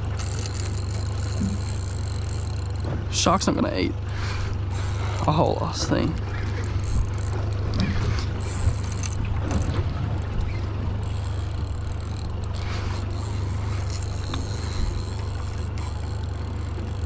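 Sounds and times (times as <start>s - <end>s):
boat engine humming: 0.0s - 17.0s
wind: 0.0s - 17.0s.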